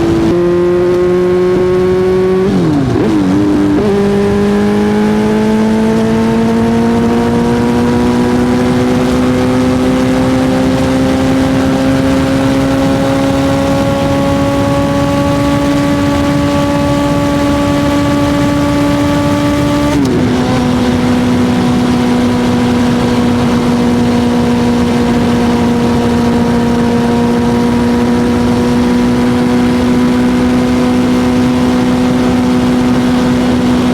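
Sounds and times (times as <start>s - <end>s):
motorcycle engine at high revs: 0.0s - 33.9s
wind noise: 0.0s - 33.9s.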